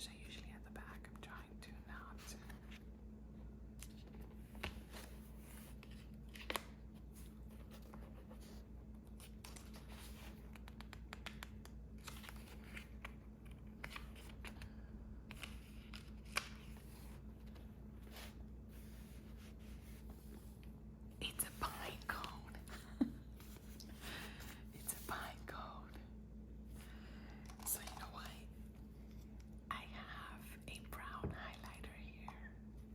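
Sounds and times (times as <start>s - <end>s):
faint hum: 0.0s - 32.9s.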